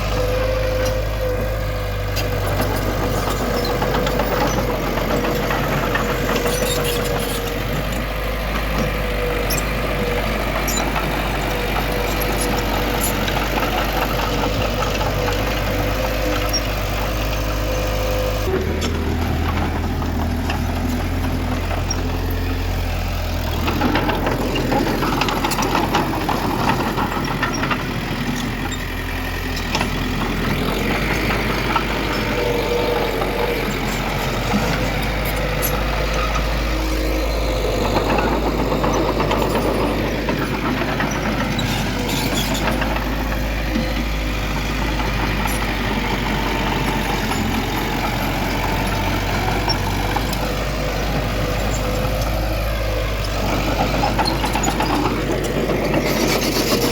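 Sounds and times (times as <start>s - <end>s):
heavy diesel machinery running: 0.0s - 56.9s
rattles and clatter: 2.2s - 17.3s, 23.1s - 56.9s.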